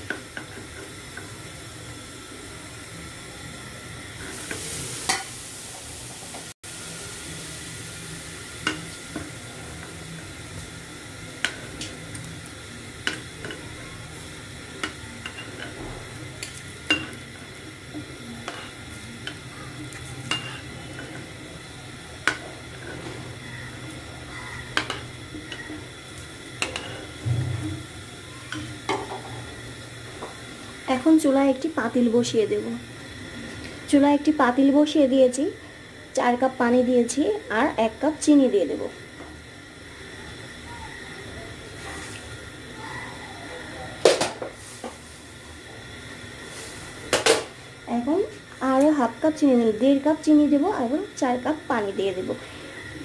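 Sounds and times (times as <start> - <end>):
hot oil sizzling: 0.0 - 53.0.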